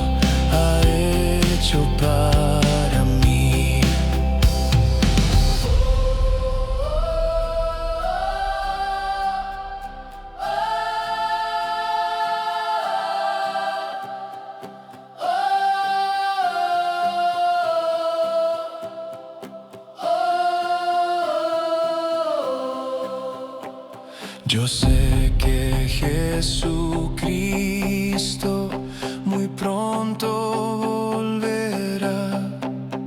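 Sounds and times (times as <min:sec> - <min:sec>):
wordless choir sustained chords: 0:00.0 - 0:33.0.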